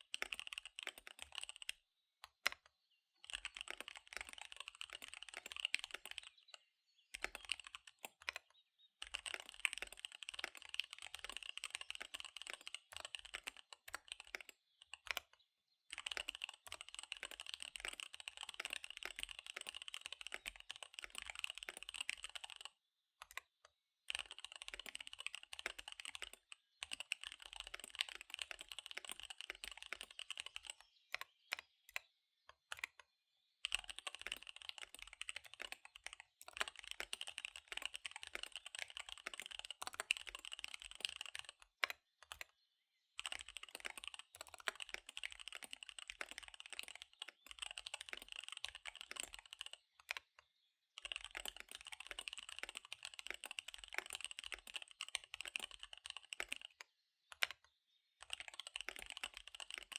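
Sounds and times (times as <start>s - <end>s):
fast typing on mechanical keyboard: 0.0s - 2.6s, 3.2s - 15.3s, 15.9s - 32.0s, 32.6s - 33.0s, 33.6s - 42.5s, 43.2s - 50.4s, 51.0s - 59.9s.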